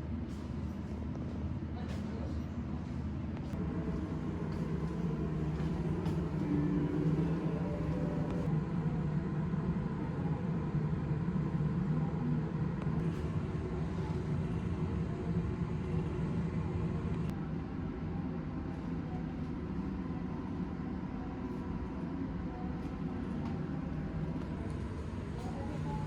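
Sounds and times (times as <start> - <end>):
low mechanical hum and rumble: 0.0 - 26.0.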